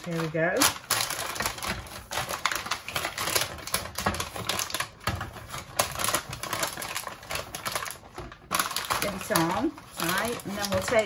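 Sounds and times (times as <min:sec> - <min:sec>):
kitchen foil crinkling: 0:00.0 - 0:11.0.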